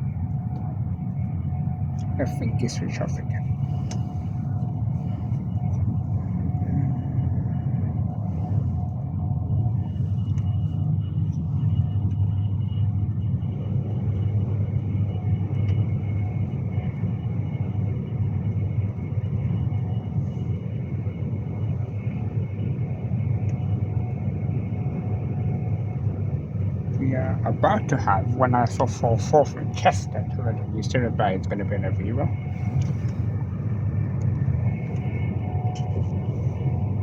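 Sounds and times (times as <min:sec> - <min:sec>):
electric train rumbling: 0:00.0 - 0:37.0
faint whining tones: 0:00.0 - 0:37.0.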